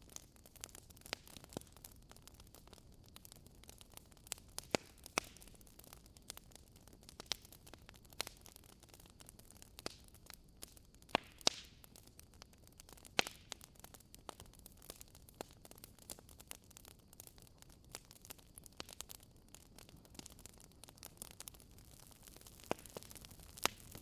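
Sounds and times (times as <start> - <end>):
logs crackling in fireplace: 0.0 - 24.0.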